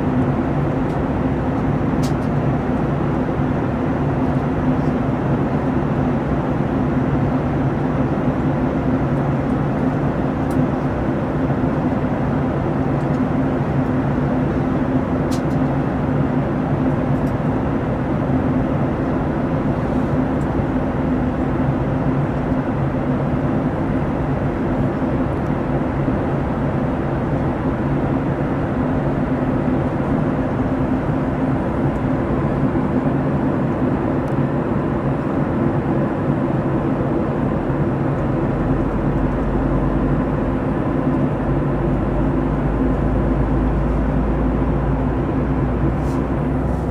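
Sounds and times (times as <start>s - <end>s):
airplane cabin engine drone: 0.0s - 46.9s.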